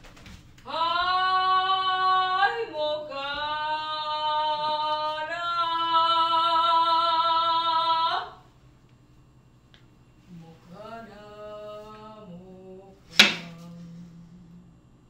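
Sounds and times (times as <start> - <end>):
woman singing a long note: 0.7 - 8.4, 10.3 - 14.8.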